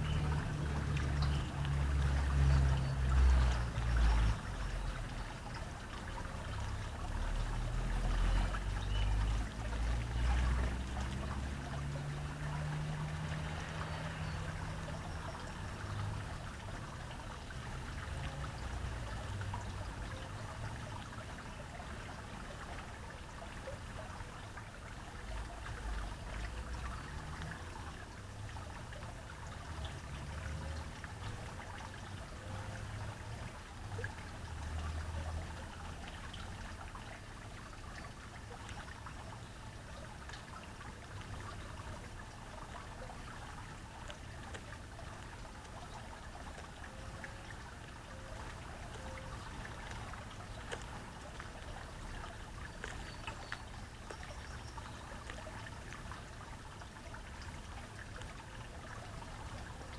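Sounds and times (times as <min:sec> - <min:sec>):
water trickling: 0:00.0 - 0:59.9.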